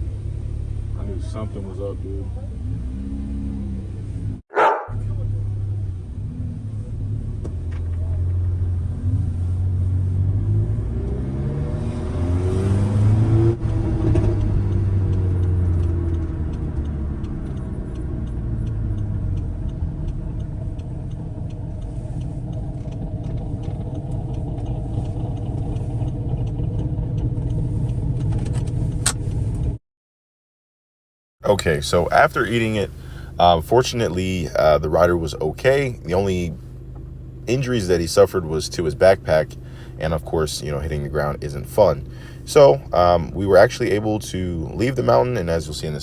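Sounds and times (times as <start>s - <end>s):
car engine revving: 0.0s - 29.8s, 31.4s - 46.0s
low road rumble: 0.0s - 29.8s, 31.4s - 46.0s.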